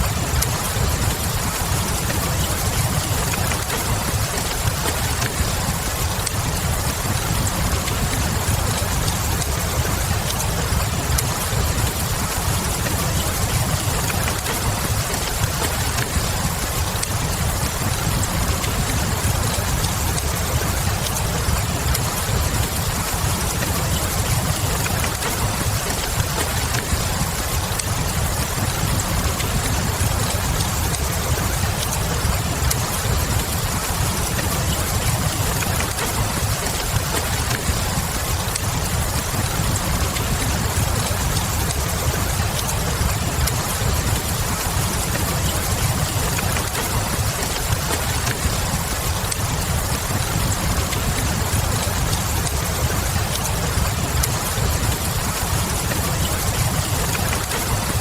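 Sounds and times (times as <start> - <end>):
steady rain: 0.0 - 58.0
wood fire crackling: 0.0 - 58.0.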